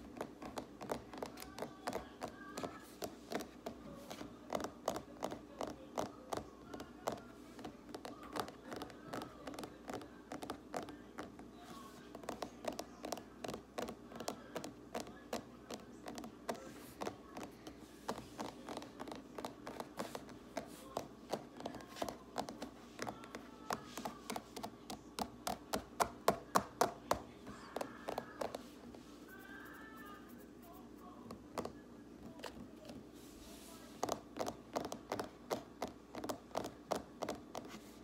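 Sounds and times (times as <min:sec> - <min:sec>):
fingers tapping on hard surface: 0:00.0 - 0:11.5, 0:12.1 - 0:28.7, 0:34.0 - 0:37.8.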